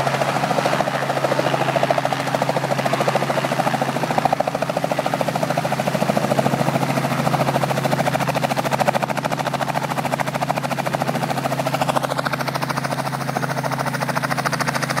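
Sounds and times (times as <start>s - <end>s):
helicopter rotor blades chopping: 0.0s - 15.0s.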